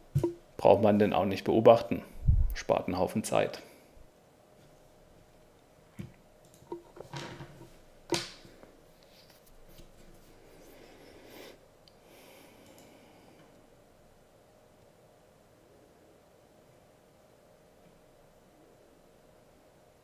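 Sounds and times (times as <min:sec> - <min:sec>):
faint room noise: 0:00.0 - 0:20.0.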